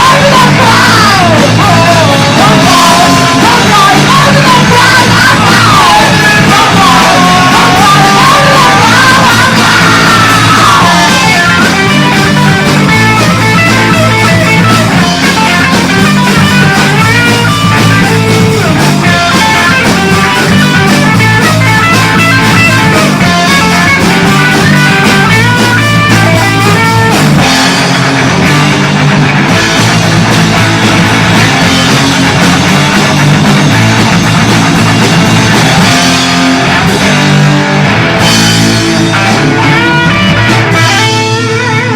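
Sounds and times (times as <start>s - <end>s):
punk rock band playing: 0.0s - 41.9s.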